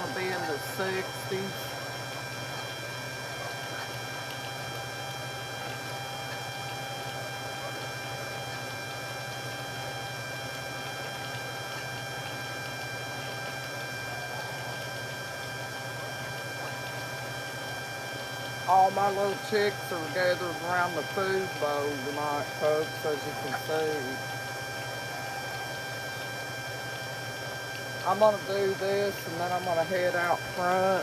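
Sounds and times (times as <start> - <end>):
electric water pump humming: 0.0 - 31.0.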